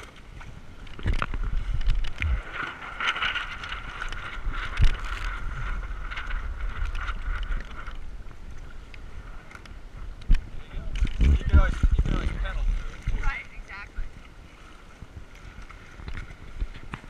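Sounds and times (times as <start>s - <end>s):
water splashing along hull: 0.0s - 17.0s
wind buffeting microphone: 0.0s - 17.0s.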